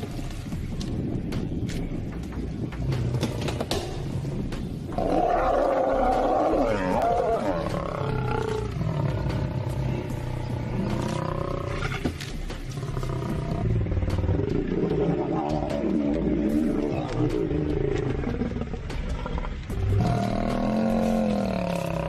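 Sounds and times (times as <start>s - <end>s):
lions growling: 1.2s - 22.0s.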